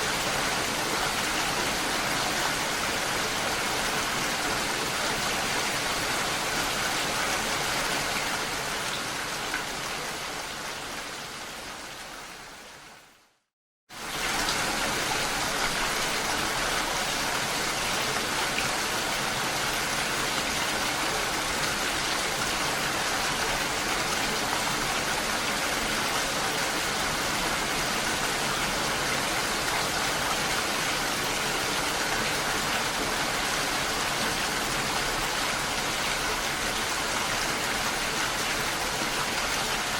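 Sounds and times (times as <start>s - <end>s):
rain and falling water hiss: 0.0s - 39.9s.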